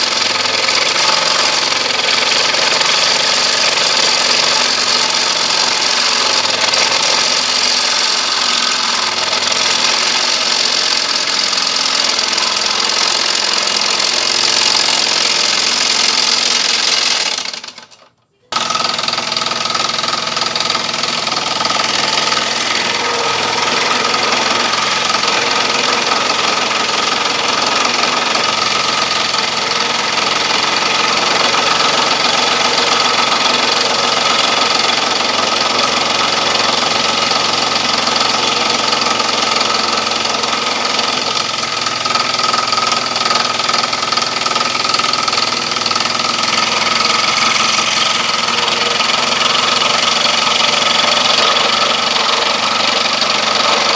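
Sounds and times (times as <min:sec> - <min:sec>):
scroll saw running: 0:00.0 - 0:53.9.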